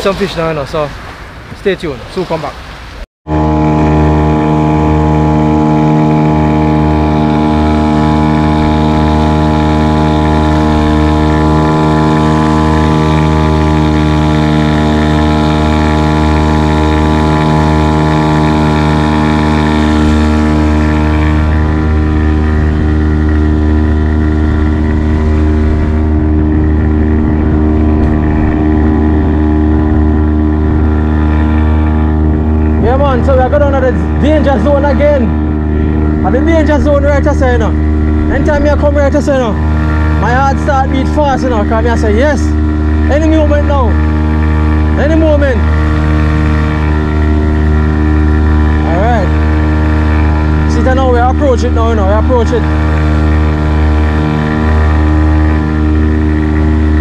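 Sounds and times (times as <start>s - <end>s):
outboard motor running: 0.0s - 57.0s
rushing water and wind: 0.0s - 57.0s.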